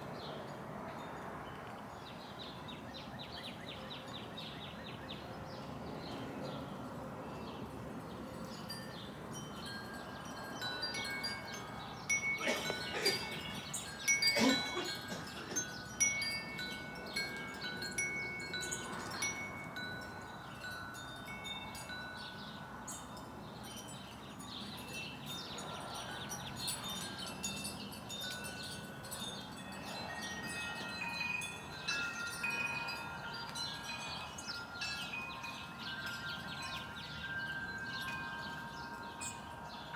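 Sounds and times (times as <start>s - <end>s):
wind chimes ringing: 6.5s - 39.9s.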